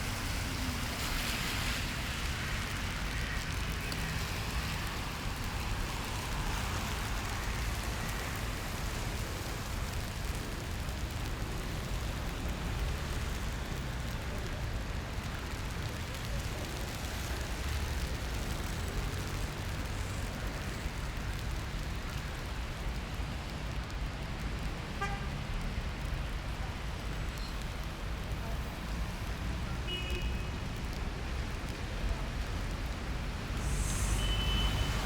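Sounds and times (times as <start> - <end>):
passing road traffic: 0.0 - 35.0
rain hiss: 0.0 - 35.0.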